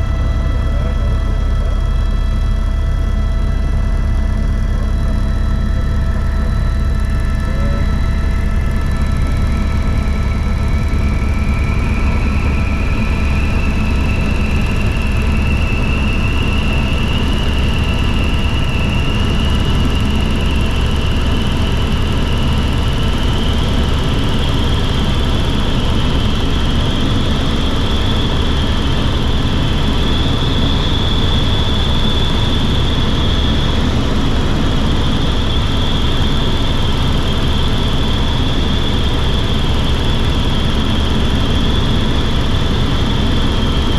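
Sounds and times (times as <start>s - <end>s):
helicopter low drone: 0.0s - 43.9s
high turbine whine: 0.0s - 43.9s.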